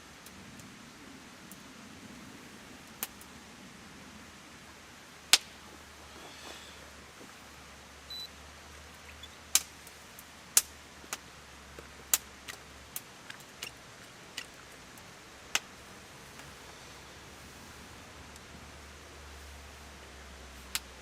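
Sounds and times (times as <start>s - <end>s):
campfire crackling: 0.0s - 21.0s
faint steady hiss: 0.0s - 21.0s.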